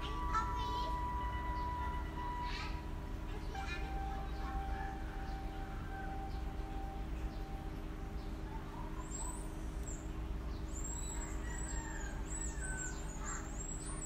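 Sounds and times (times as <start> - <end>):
birds chirping: 0.0 - 14.0
low hum: 0.0 - 14.0.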